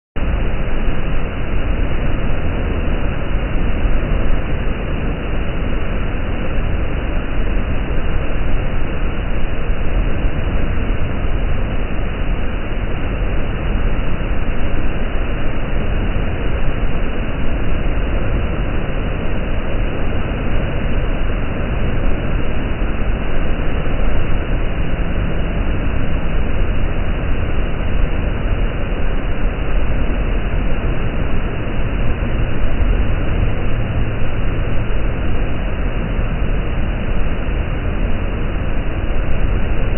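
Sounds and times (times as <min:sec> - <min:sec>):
waterfall roaring: 0:00.2 - 0:39.9.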